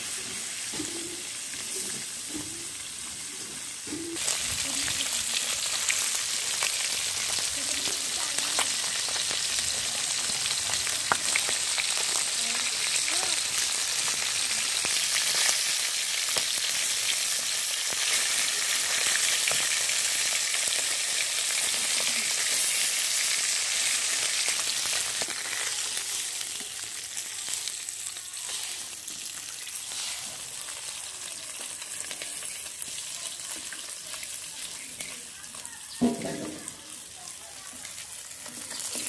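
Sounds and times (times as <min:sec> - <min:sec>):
fish sizzling in hot oil: 0:00.0 - 0:39.0.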